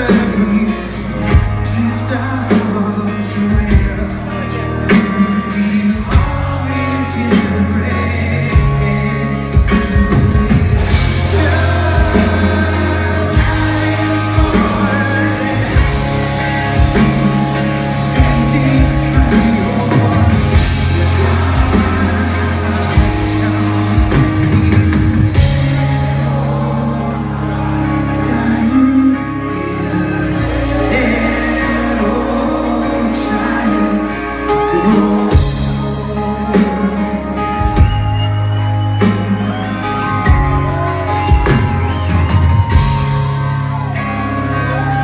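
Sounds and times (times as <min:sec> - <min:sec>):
man singing: 0:00.0 - 0:38.1
live rock band playing: 0:00.0 - 0:45.0.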